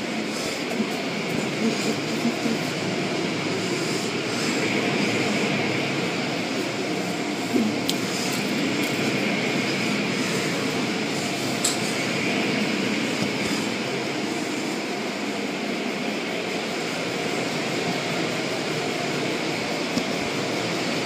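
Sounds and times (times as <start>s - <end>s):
car wash machinery rumble: 0.0s - 21.0s.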